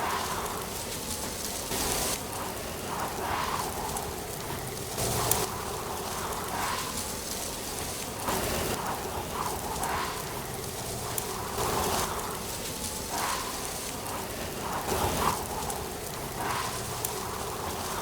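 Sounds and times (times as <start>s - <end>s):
faint clicks: 0.0s - 18.0s
wind rustling dry leaves: 0.0s - 18.0s.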